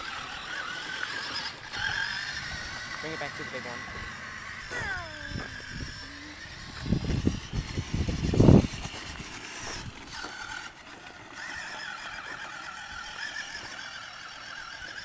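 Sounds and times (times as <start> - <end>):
toy truck motor whining: 0.0 - 15.0.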